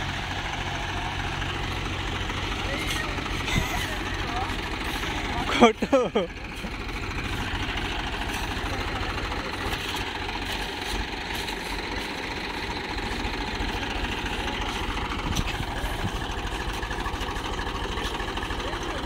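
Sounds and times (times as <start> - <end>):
tractor diesel engine chugging: 0.0 - 19.0.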